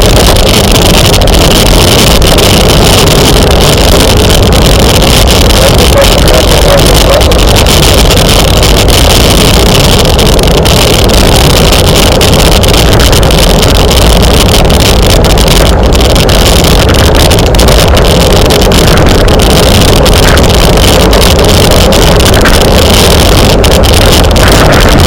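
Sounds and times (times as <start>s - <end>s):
wind roaring over microphone: 0.0s - 25.0s.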